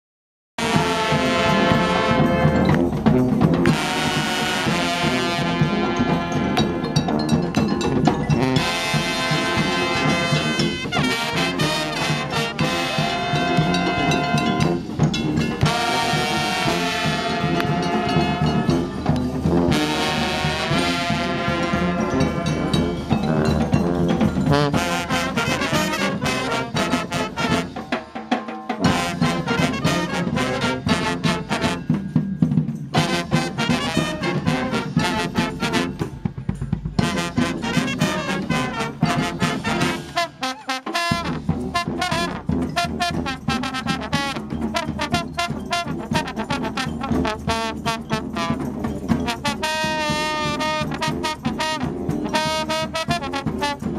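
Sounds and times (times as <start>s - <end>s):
street brass band playing: 0.6s - 53.9s.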